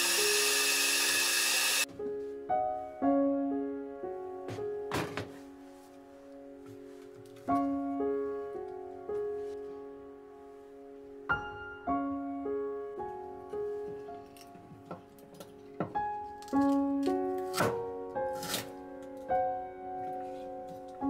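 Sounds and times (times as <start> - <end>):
gentle piano music: 1.8 - 21.0.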